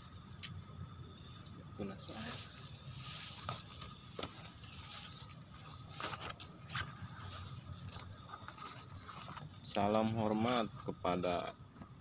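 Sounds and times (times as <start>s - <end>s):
leaves rustling against phone: 1.2s - 11.4s.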